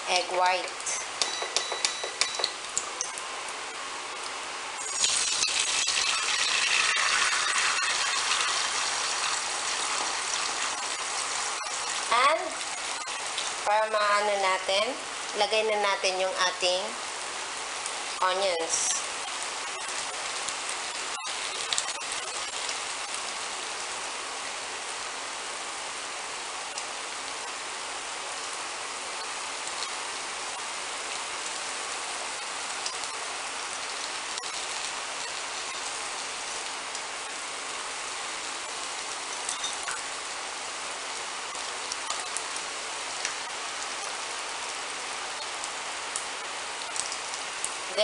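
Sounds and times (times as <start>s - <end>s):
food sizzling in hot oil: 0.0s - 48.0s.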